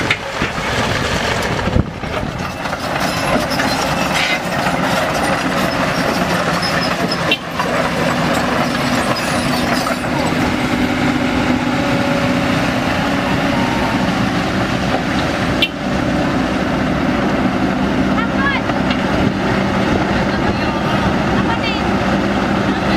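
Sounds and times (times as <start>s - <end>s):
heavy diesel engine running: 0.0s - 22.9s.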